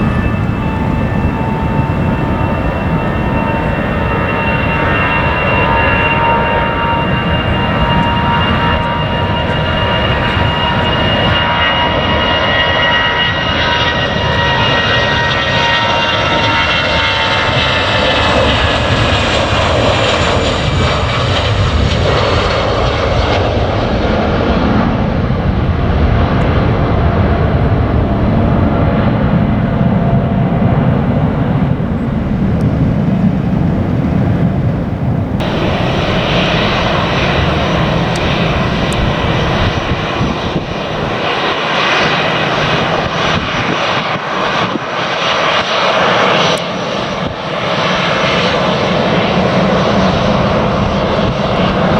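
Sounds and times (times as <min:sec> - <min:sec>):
jet engine whine: 0:00.0 - 0:51.9
jet engines rumbling: 0:00.0 - 0:51.9.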